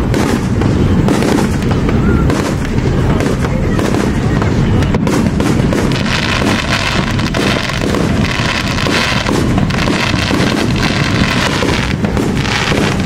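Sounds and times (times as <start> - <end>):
distant fireworks popping and crackling: 0.0 - 13.0
wind buffeting microphone: 0.0 - 13.0.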